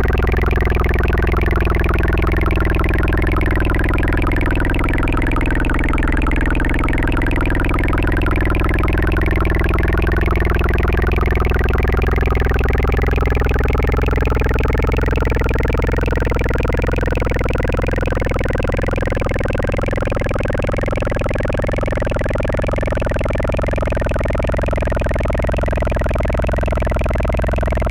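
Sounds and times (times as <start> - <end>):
layered electronic drone: 0.0 - 27.9.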